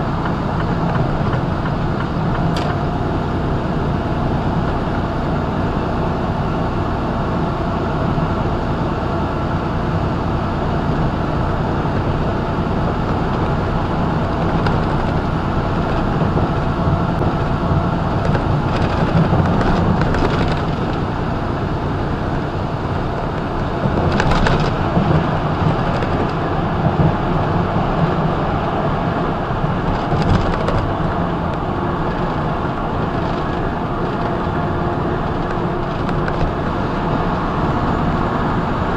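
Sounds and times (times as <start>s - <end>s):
truck engine drone: 0.0s - 38.9s
tyre and road noise: 0.0s - 38.9s.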